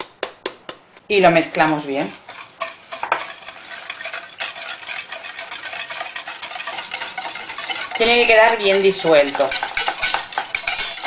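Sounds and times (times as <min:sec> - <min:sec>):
whisk clicking against metal pan: 0:01.4 - 0:11.0.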